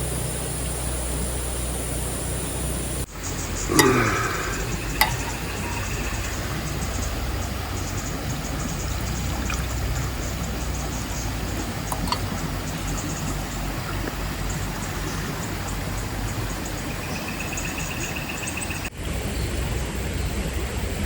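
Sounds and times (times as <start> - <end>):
pulsed insect trill: 0.0 - 19.4
insects chirping: 0.0 - 20.3.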